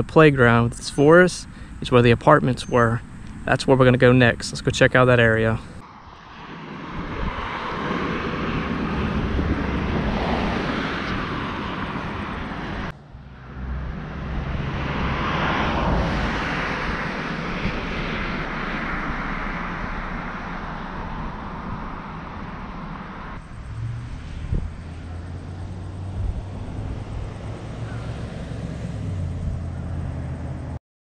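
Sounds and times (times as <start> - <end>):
passing vehicle rushing: 5.0 - 30.8.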